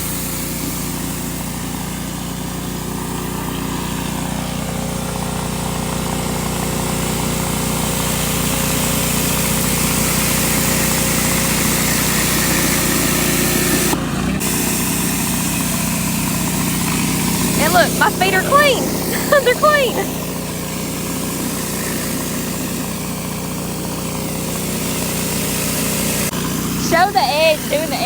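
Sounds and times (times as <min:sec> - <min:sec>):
small engine running: 0:00.0 - 0:28.0
water jets hissing on concrete: 0:00.0 - 0:28.0.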